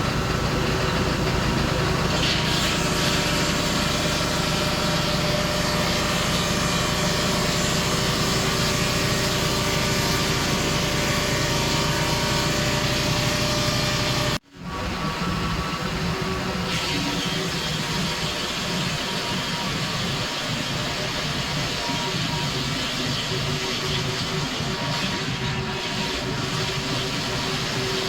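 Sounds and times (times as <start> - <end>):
sawmill engine running at high speed: 0.0 - 28.0.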